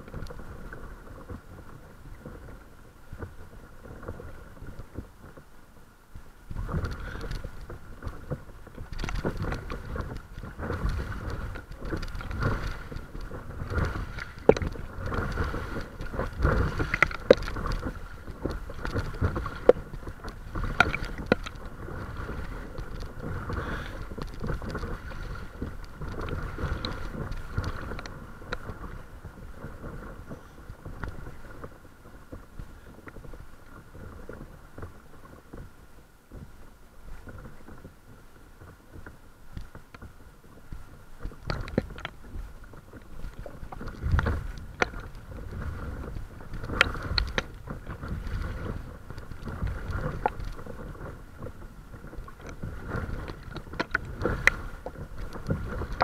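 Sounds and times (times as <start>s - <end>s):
water splashing against boat bow: 6.5s - 56.0s.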